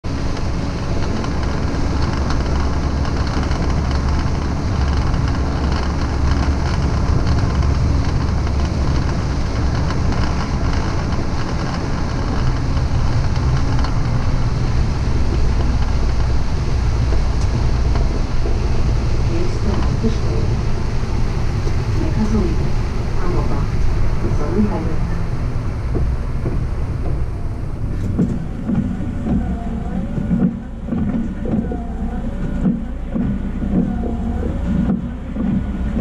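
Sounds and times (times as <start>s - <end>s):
bus engine drone: 0.0s - 36.0s
road rumble: 0.0s - 36.0s.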